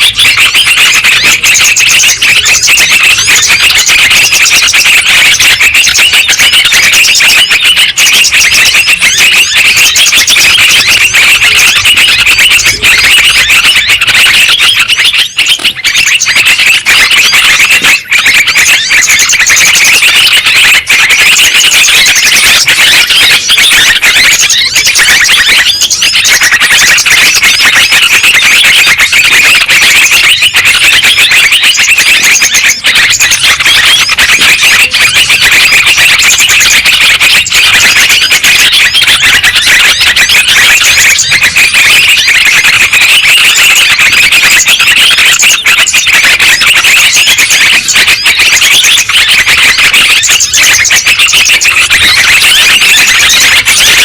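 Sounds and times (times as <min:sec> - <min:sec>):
bulbuls calling and chattering: 0:00.0 - 0:54.0.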